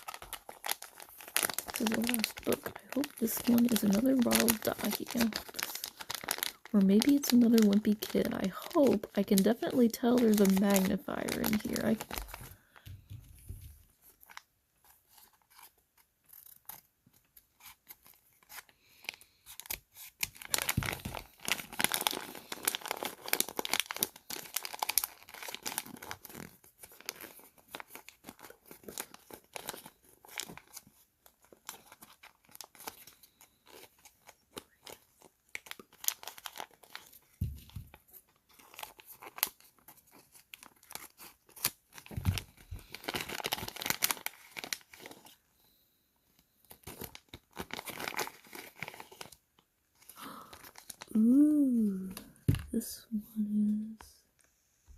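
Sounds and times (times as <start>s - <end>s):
plastic packaging crinkling: 0.0s - 45.4s, 46.6s - 52.8s.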